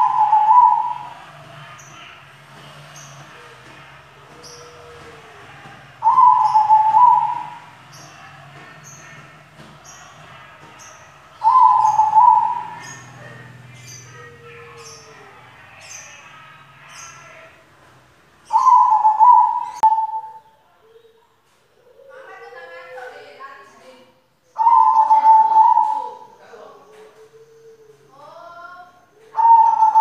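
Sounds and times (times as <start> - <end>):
dove cooing: 0.0 - 17.6, 18.4 - 23.3, 24.6 - 30.0.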